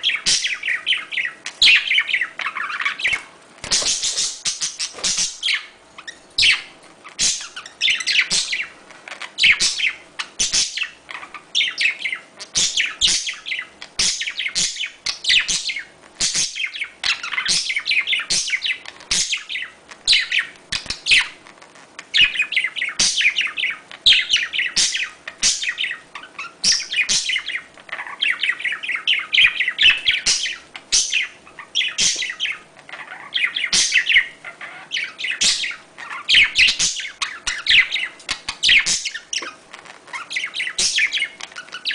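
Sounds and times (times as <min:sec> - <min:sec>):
budgerigars chattering: 0:00.0 - 0:21.4, 0:22.1 - 0:41.9.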